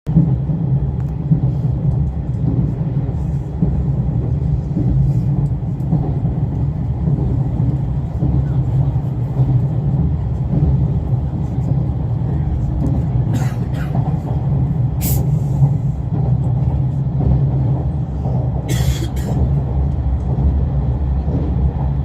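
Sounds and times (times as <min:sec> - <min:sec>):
train wheels rumbling on rail: 0:00.1 - 0:22.0.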